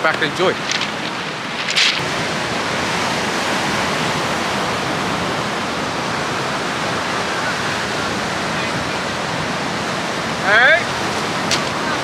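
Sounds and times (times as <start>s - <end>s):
surf breaking on a beach: 0.0s - 12.0s.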